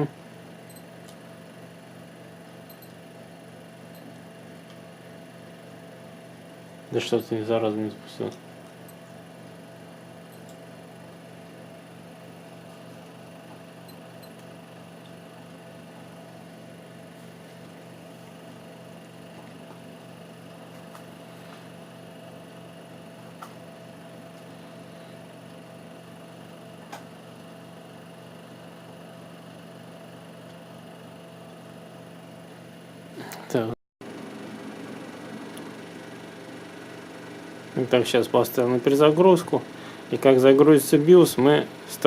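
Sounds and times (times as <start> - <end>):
laptop electrical hum: 0.0 - 42.0.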